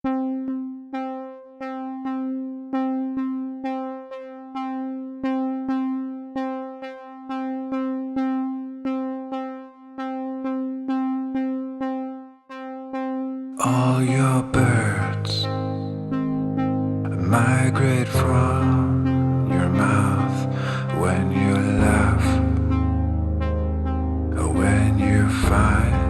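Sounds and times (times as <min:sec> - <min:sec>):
synthesizer note repeating: 0:00.0 - 0:26.0.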